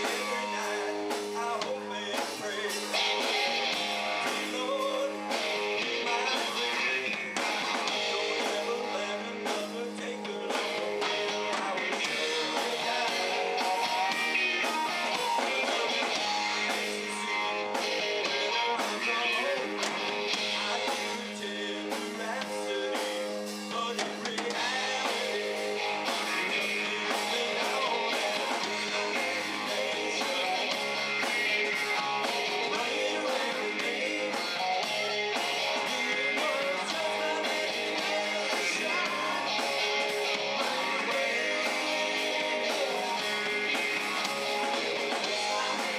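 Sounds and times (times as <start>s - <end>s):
drum kit beat: 0.0s - 45.9s
electric guitar: 0.0s - 45.9s
live rock band playing: 0.0s - 45.9s.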